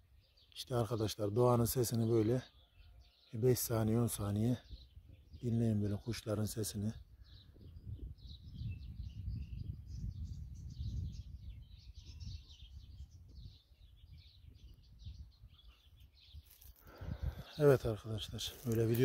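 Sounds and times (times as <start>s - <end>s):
wild birds chirping: 0.0s - 19.0s.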